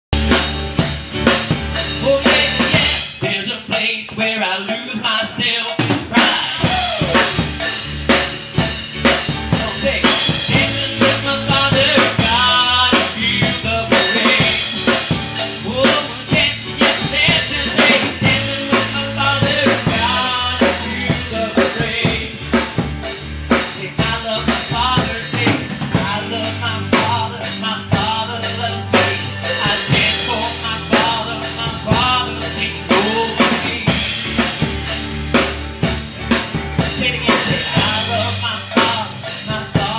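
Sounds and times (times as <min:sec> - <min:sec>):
drum kit: 0:00.0 - 0:39.9
live rock band playing: 0:00.1 - 0:39.9.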